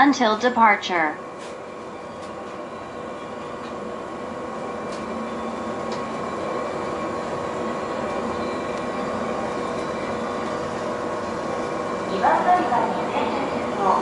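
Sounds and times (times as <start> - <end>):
train equipment hum: 0.0 - 14.0
steady whining tones: 0.1 - 14.0.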